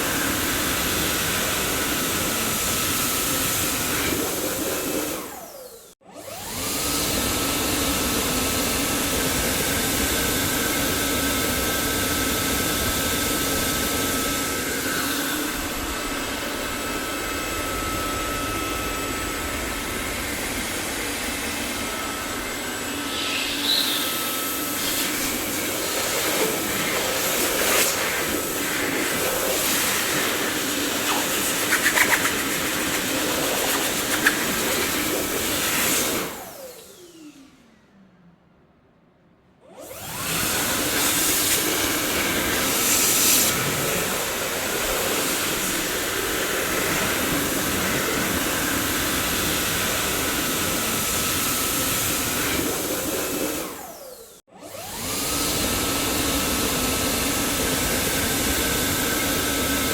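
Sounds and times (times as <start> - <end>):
vacuum cleaner running: 0.0 - 37.9, 39.6 - 59.9.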